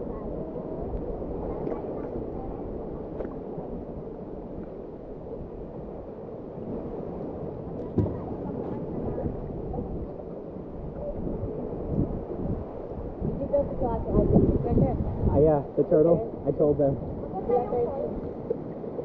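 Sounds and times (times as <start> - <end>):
water lapping against boat hull: 0.0 - 15.3, 16.2 - 19.0
wind on microphone: 0.0 - 19.0.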